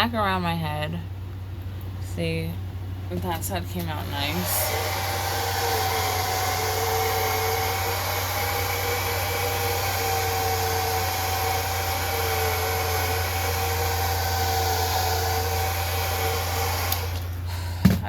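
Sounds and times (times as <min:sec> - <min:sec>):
hair dryer running: 0:03.2 - 0:18.0.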